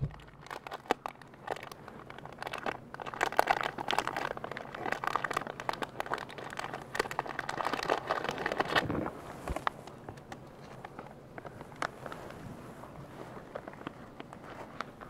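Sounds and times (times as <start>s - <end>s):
plastic wrapper crinkling: 0.0s - 12.4s.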